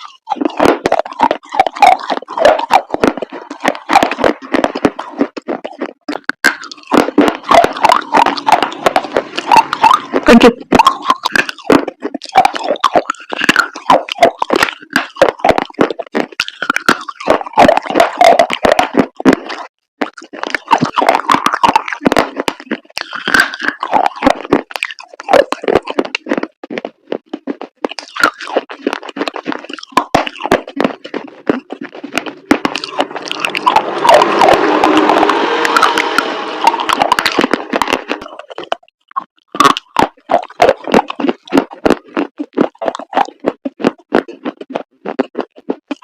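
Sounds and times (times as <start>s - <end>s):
dried paste crunching and crackling: 0.0s - 46.0s.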